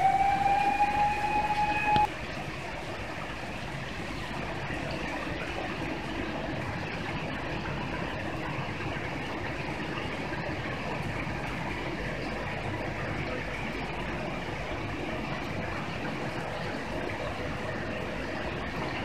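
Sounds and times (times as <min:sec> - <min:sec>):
fire engines and pumps running: 0:00.0 - 0:19.0.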